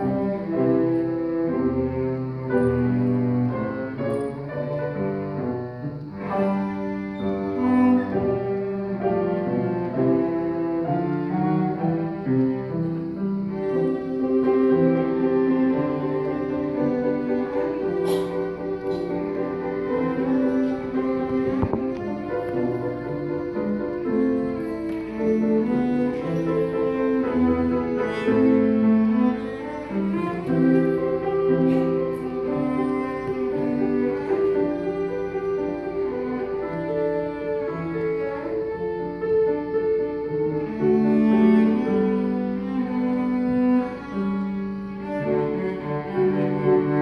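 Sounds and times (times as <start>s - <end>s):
bowed cello melody: 0.0s - 47.0s.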